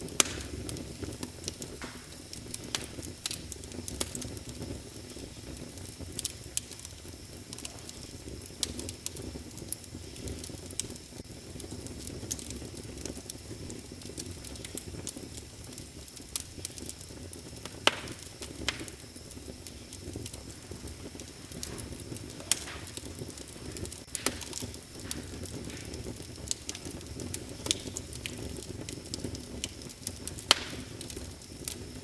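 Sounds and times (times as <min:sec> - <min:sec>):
fire crackles and pops: 0:00.0 - 0:32.0
fire flames rumbling: 0:00.0 - 0:32.0.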